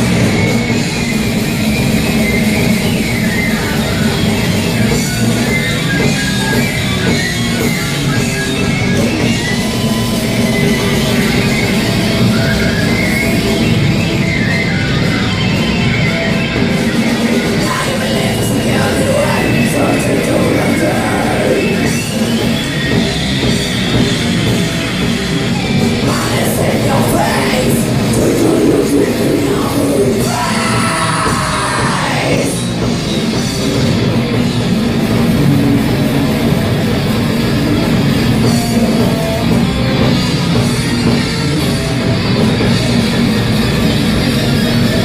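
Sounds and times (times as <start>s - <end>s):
heavy metal band playing: 0.0s - 45.0s.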